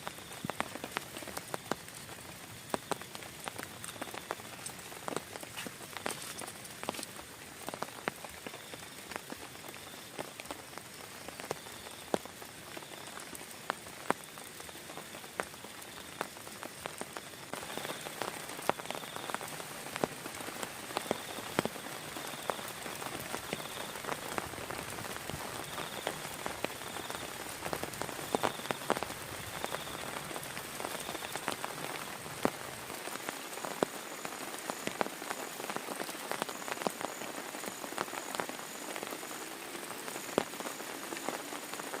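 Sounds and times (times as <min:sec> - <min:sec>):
heavy rain hiss: 0:00.0 - 0:42.0
raindrops striking close by: 0:00.0 - 0:42.0.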